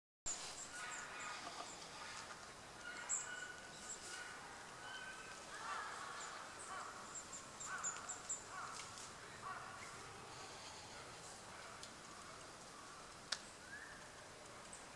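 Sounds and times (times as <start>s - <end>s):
harsh caw-like bird calls: 0.7s - 13.1s.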